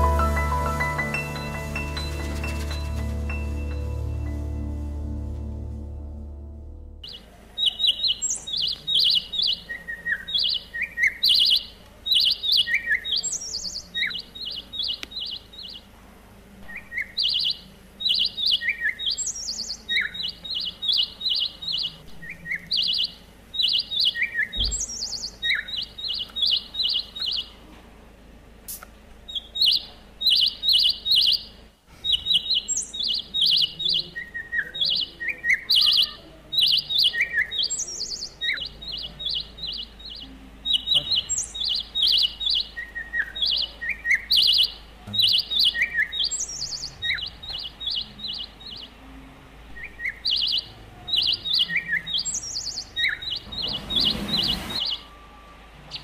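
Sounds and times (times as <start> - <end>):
small birds chirping: 7.0 - 16.0, 16.6 - 27.7, 28.7 - 55.2.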